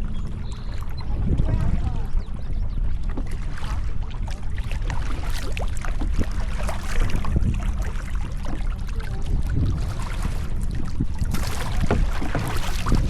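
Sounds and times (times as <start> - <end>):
steady low rumble: 0.0 - 13.0
water splashing from paddling: 0.5 - 13.0.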